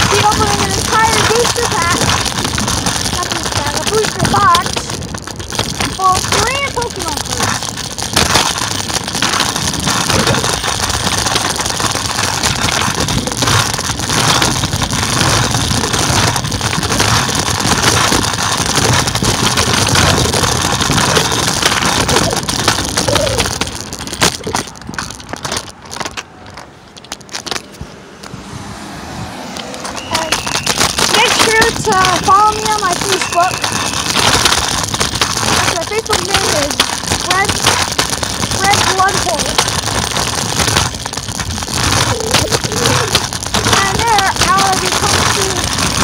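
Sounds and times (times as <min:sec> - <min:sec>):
wind buffeting microphone: 0:00.0 - 0:26.8, 0:27.7 - 0:46.0
wheels rolling over pavement: 0:00.0 - 0:46.0.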